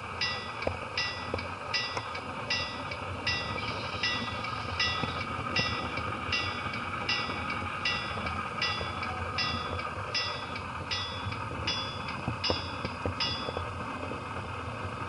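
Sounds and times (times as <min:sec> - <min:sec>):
model train rumbling on track: 0:00.0 - 0:15.0
pulsing ringing tone: 0:00.2 - 0:13.8.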